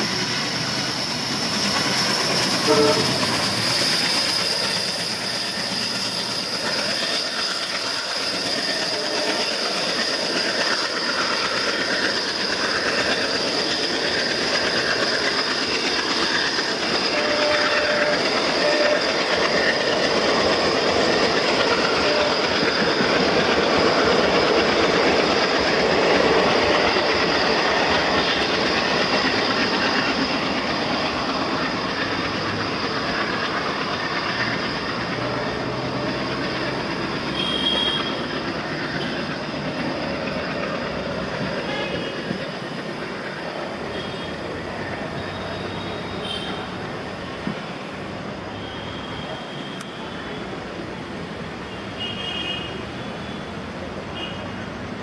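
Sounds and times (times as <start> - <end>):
wheel squeal: 0.0 - 47.6, 48.4 - 50.8, 51.7 - 54.7
train wheels clattering: 0.0 - 50.0.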